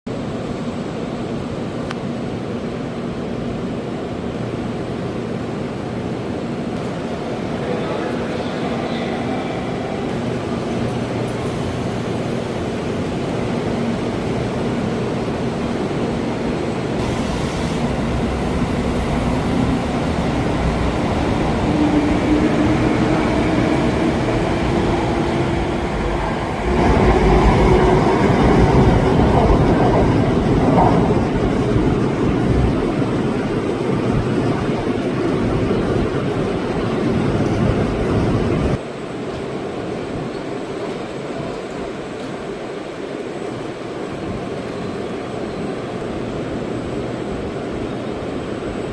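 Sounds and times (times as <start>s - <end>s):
train rumbling: 0.1s - 48.9s.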